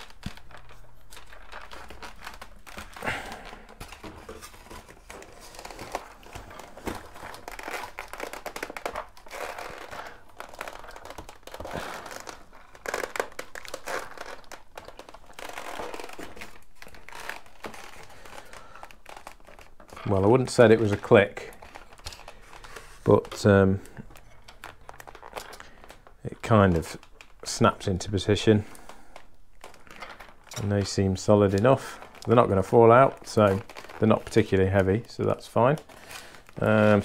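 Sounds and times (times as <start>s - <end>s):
foam creaking and rustling: 0.0s - 37.0s.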